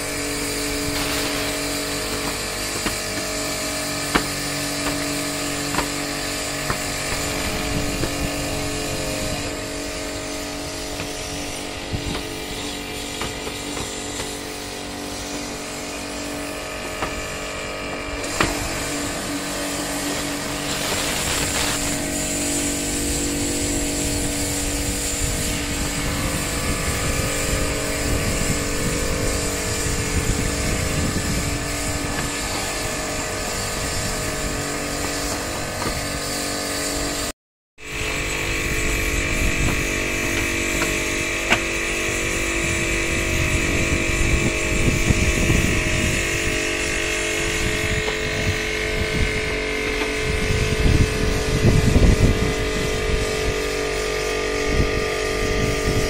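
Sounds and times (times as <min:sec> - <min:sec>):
pressure washer running: 0:00.0 - 0:56.0
water jet hissing on steel roof: 0:00.0 - 0:56.0.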